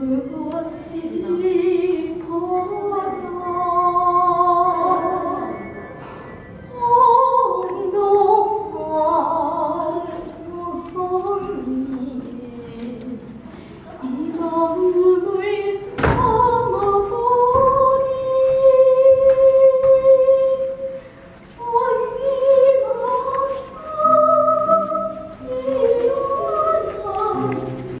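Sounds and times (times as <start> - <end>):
woman singing unaccompanied: 0.0 - 5.7, 6.7 - 28.0.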